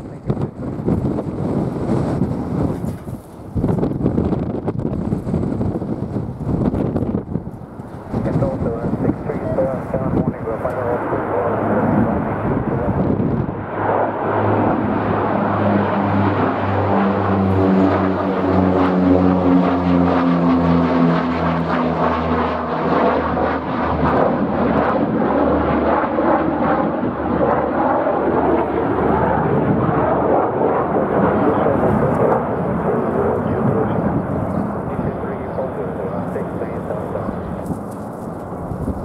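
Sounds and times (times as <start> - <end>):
jet airliner engine rush: 0.0 - 39.0.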